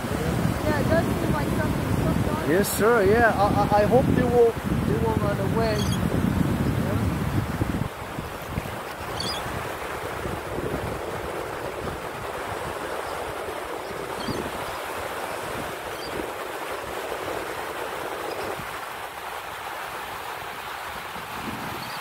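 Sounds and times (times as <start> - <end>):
surf washing onto beach: 0.0 - 22.0
wind gusting over microphone: 0.0 - 22.0.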